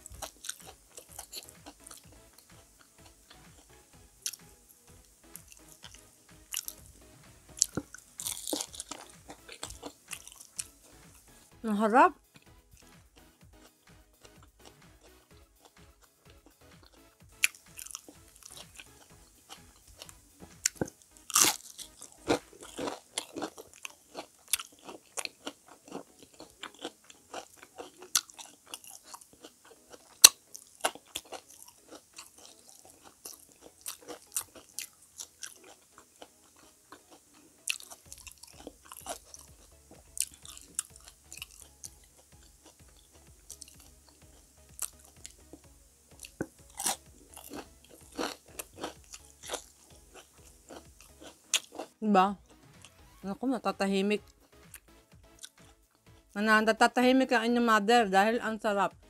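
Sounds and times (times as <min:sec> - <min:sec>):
crunching and chewing of fritters: 0:00.0 - 0:11.5, 0:12.2 - 0:53.2, 0:54.2 - 0:56.4.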